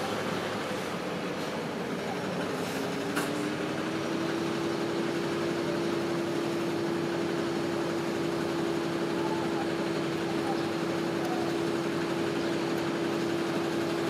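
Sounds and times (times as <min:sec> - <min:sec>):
train engine droning: 0:00.0 - 0:14.0.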